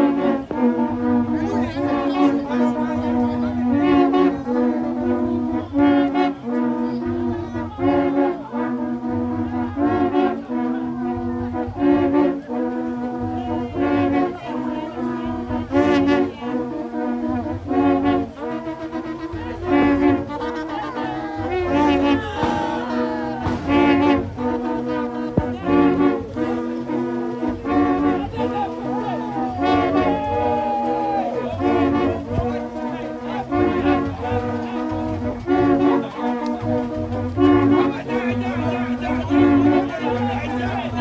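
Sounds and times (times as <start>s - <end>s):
brass band music: 0.0s - 41.0s.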